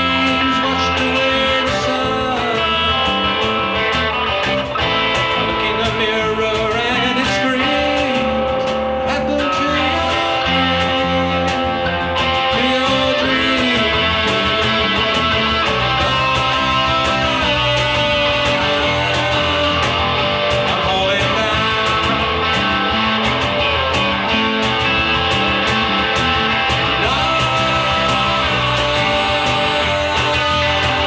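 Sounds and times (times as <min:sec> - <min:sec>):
band playing live: 0:00.0 - 0:31.0
drums keeping a steady beat: 0:00.0 - 0:31.0
guitar: 0:00.0 - 0:31.0.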